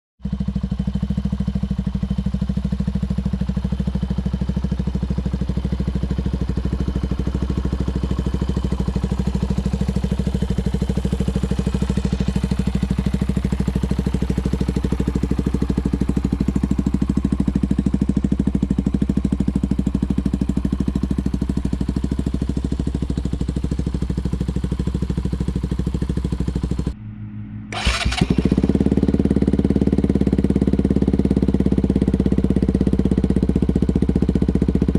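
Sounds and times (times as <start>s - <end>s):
motorcycle engine idling: 0.2s - 27.0s, 27.7s - 34.9s.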